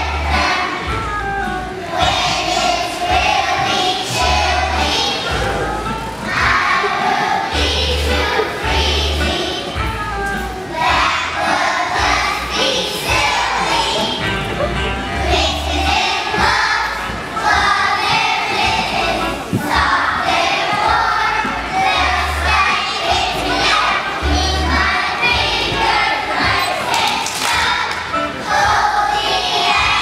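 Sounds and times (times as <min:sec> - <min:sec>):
low bass notes: 0:00.0 - 0:26.6
children's choir singing: 0:00.0 - 0:30.0
instrumental accompaniment: 0:00.0 - 0:30.0.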